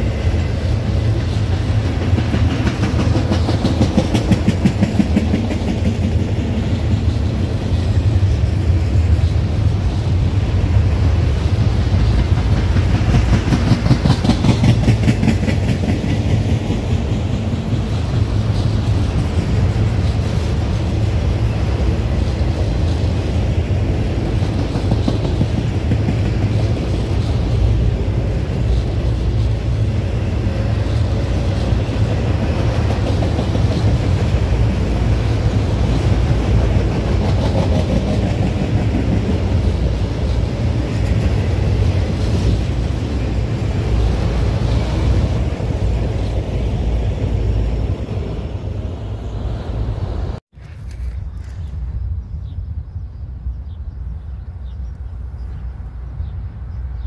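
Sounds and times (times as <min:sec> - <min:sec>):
wheels clacking over rail joints: 0:00.0 - 0:48.2
freight train rumbling past: 0:00.0 - 0:57.0.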